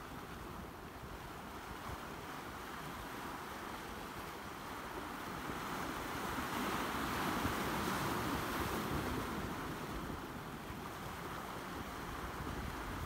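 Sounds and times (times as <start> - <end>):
waves washing over boulders: 0.0 - 13.0.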